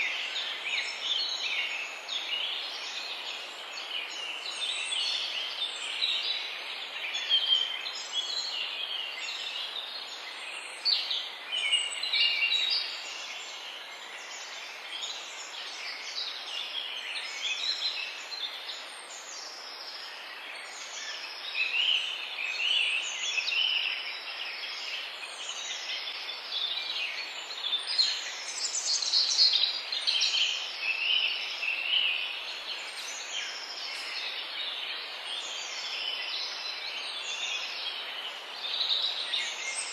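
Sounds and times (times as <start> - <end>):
songbirds chirping and trilling: 0.0 - 39.9
steady background hiss: 0.0 - 39.9.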